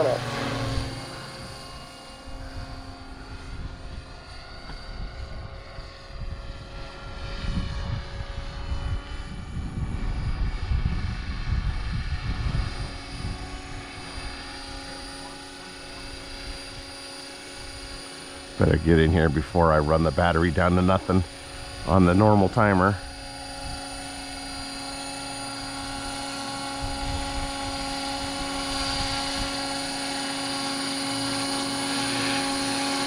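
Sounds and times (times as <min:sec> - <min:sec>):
rc helicopter motor whine: 0:00.0 - 0:33.0.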